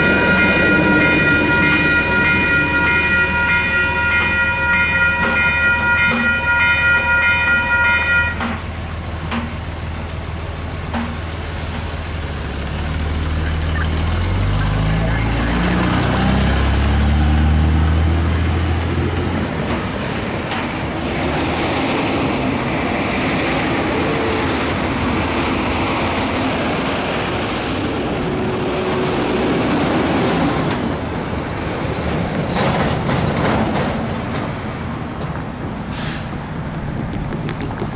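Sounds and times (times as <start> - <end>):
passing cars and road noise: 0.0 - 37.9.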